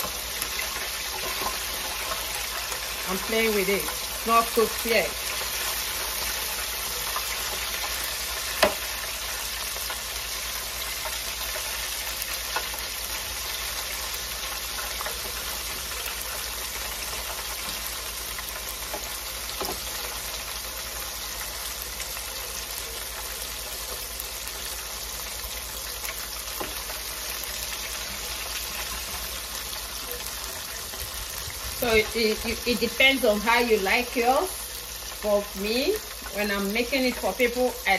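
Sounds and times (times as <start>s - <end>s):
fish sizzling in oil: 0.0s - 37.9s.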